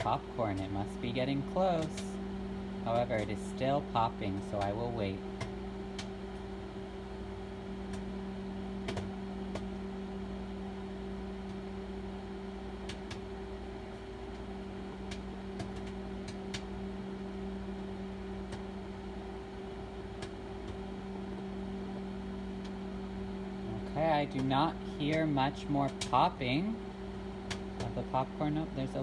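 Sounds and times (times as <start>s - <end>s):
microwave oven humming: 0.0s - 29.0s
popcorn popping: 0.0s - 29.0s.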